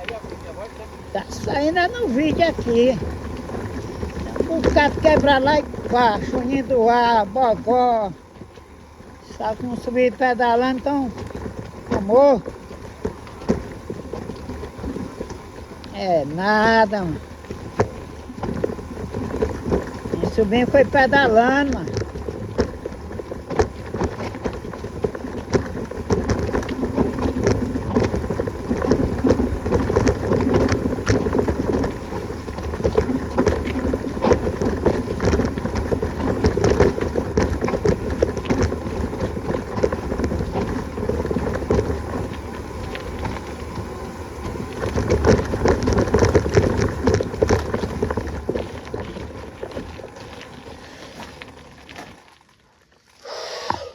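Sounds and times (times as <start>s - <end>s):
wind buffeting microphone: 0.0s - 50.8s
bicycle rattling on rough trail: 0.0s - 53.9s.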